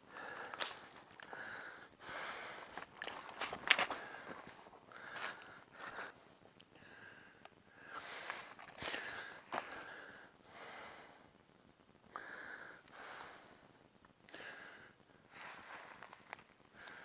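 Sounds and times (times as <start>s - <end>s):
person breathing hard: 0.0s - 2.9s, 3.7s - 11.4s, 12.1s - 16.0s, 16.7s - 17.0s.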